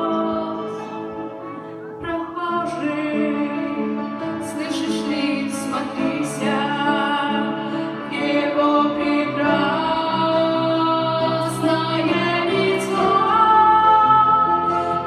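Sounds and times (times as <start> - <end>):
women singing: 0.0 - 1.0, 2.0 - 15.0
instrumental accompaniment: 0.0 - 15.0.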